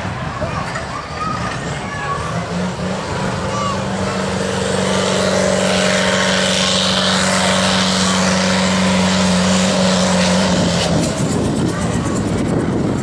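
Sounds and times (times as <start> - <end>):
tractor engine running loud: 0.0 - 13.0.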